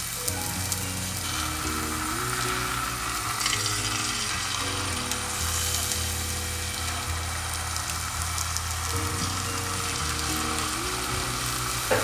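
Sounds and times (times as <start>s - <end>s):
background music: 0.0s - 12.0s
potato slices sizzling in oil: 0.0s - 12.0s.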